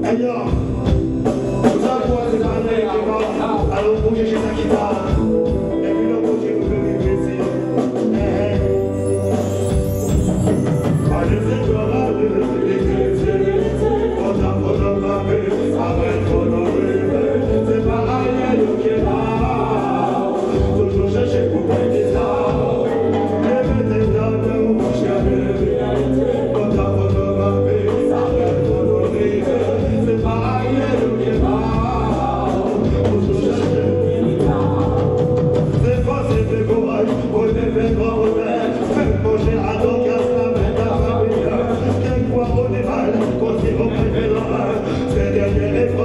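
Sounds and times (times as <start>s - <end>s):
person singing: 0.0s - 46.0s
reggae band playing: 0.0s - 46.0s.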